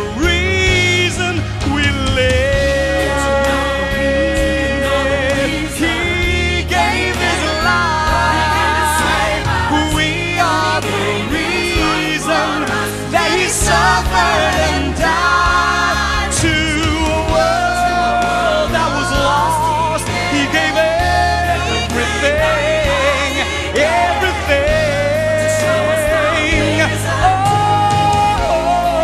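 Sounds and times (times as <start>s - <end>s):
band playing: 0.0s - 29.0s
man singing: 0.0s - 29.0s.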